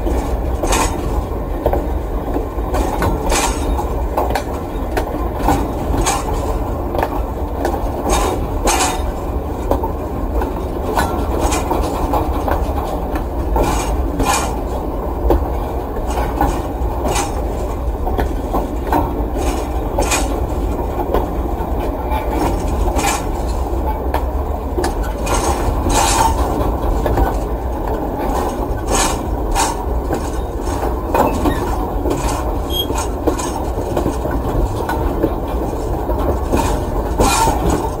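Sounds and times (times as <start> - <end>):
freight train cars rumbling: 0.0 - 38.0.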